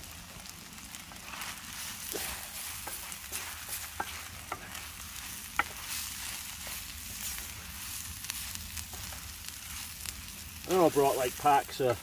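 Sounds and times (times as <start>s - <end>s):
noodles sizzling in a frying pan: 0.0s - 12.0s.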